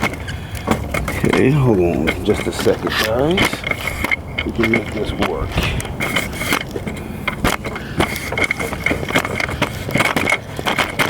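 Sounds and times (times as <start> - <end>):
tools clicking and scraping: 0.0 - 11.0.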